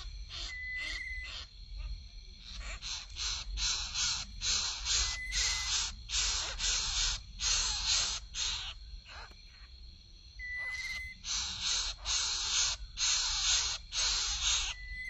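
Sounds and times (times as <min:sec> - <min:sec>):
nestlings rasping begging calls: 0:00.0 - 0:09.4, 0:10.6 - 0:15.0.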